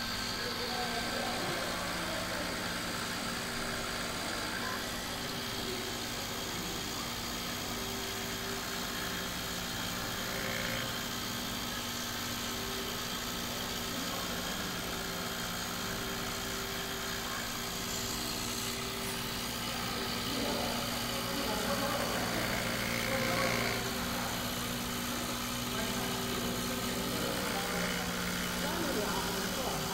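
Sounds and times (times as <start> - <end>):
cnc milling machine hum: 0.0 - 29.9.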